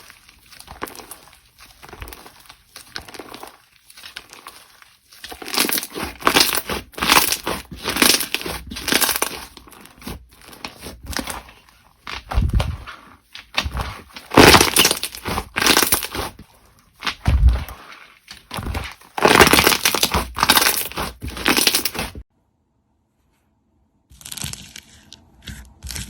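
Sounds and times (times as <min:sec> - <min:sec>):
slime squished by hand: 0:00.0 - 0:22.2.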